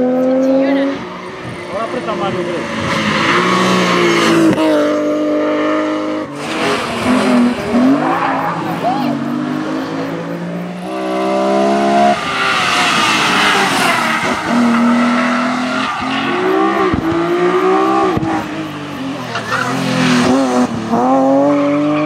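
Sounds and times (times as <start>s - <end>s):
rally car engines revving high: 0.0s - 22.0s.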